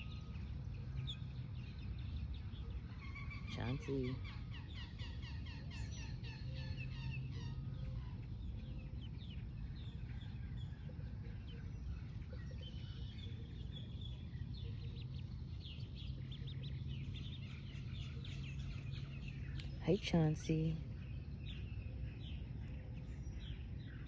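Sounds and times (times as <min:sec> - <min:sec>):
duckling peeping: 0:00.0 - 0:20.4
steady low hum: 0:00.0 - 0:24.0.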